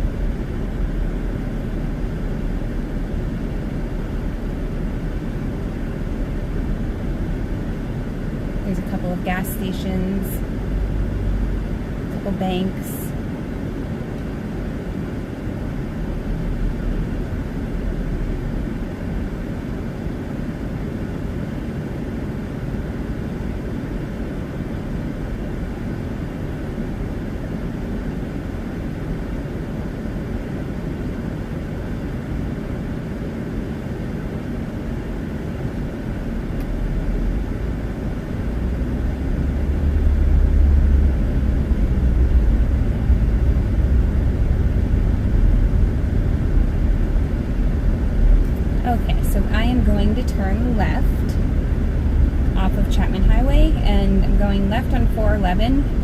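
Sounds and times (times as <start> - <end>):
car interior road and engine rumble: 0.0 - 56.0.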